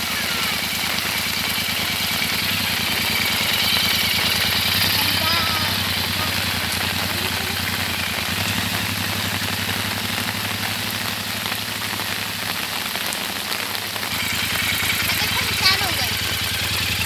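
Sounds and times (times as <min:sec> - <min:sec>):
engine running: 0:00.0 - 0:17.0
heavy rain on wet road: 0:00.0 - 0:17.0.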